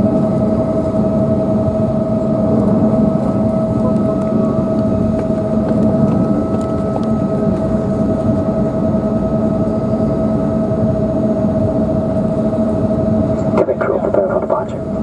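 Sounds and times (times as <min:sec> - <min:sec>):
jet engine whine: 0:00.0 - 0:15.0
low cabin rumble: 0:00.6 - 0:15.0.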